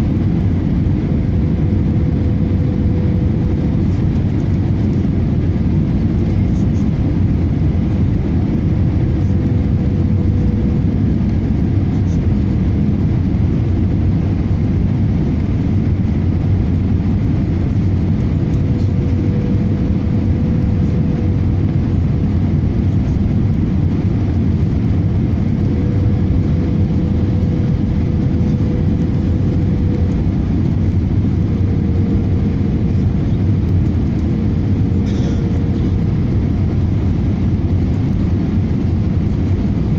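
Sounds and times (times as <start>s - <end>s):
airliner cabin rumble: 0.0s - 39.9s
faint hum: 0.0s - 39.9s.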